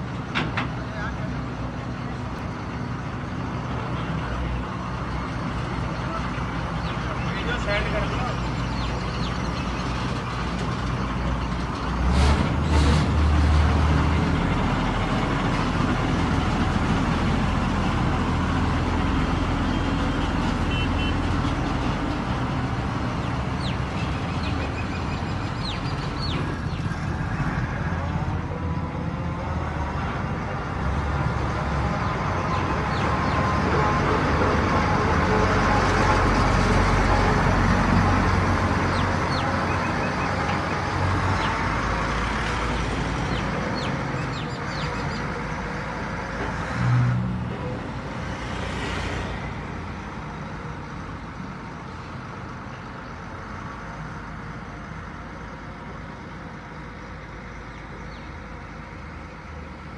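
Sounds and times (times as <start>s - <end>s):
combine harvester diesel engines: 0.0s - 59.9s.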